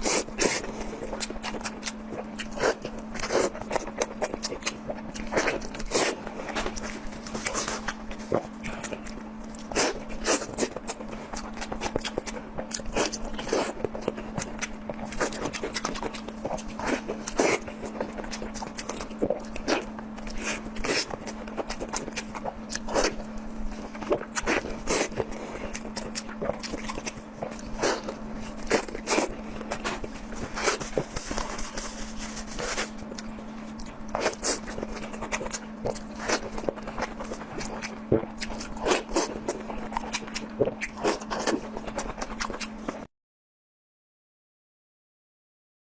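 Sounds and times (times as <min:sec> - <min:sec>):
chewing and mouth clicks: 0:00.0 - 0:43.0
steady low hum: 0:00.0 - 0:43.1.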